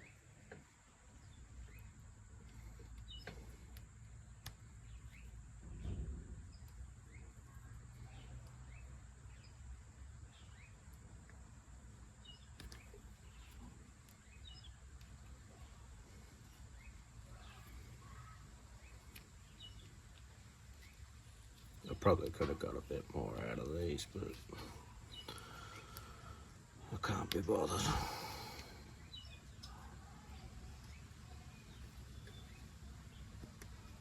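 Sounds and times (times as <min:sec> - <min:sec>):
birds chirping: 0:00.0 - 0:34.0
low steady rumble: 0:00.0 - 0:34.0.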